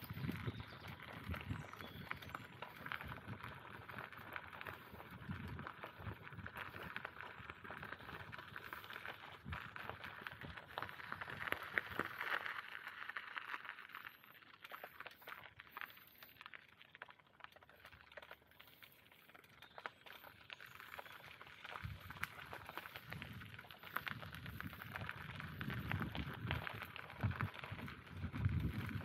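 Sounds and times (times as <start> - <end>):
bicycle tyres rolling on grit: 0.0 - 29.0.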